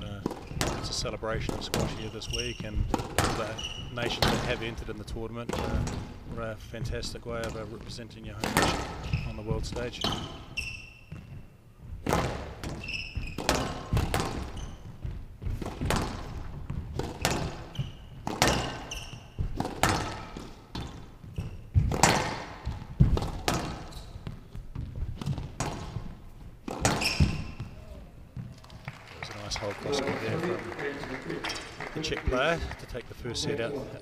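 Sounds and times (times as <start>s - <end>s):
squash ball hitting rackets and walls: 0.0s - 28.7s
court shoes squeaking: 0.0s - 29.0s, 30.0s - 32.4s.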